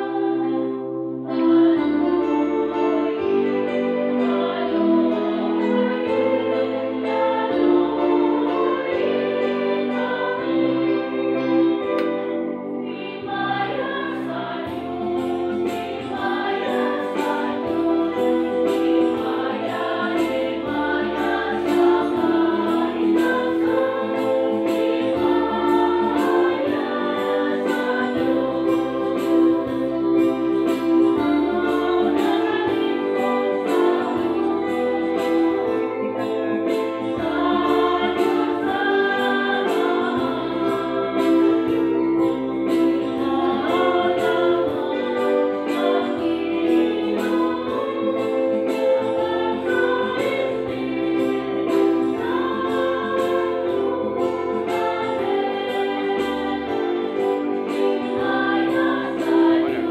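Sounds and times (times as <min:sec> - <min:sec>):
choir singing a hymn: 0:00.0 - 0:59.9
instrumental accompaniment with bass: 0:00.0 - 0:59.9.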